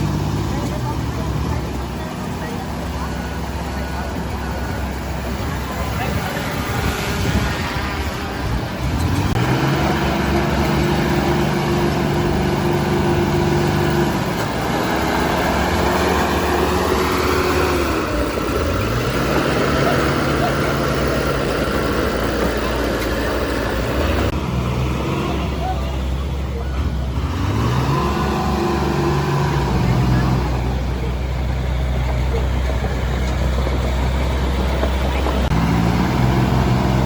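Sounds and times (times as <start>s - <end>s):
heavy diesel engine under load: 0.0s - 37.0s.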